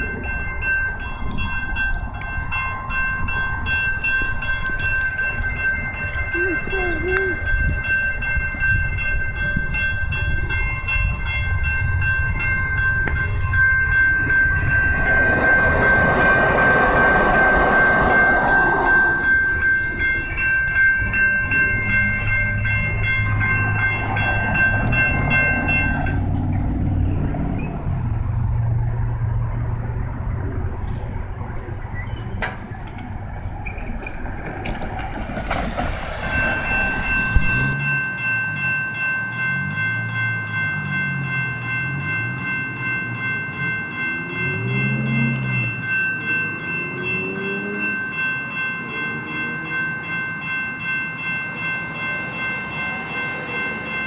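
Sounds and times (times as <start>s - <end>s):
passing train rumble: 0.0s - 54.0s
railroad crossing bells ringing: 0.0s - 54.0s.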